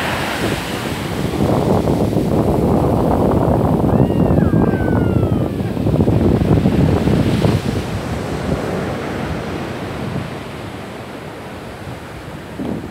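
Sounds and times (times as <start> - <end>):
surf breaking on beach: 0.0 - 12.9
wind buffeting microphone: 0.0 - 12.9.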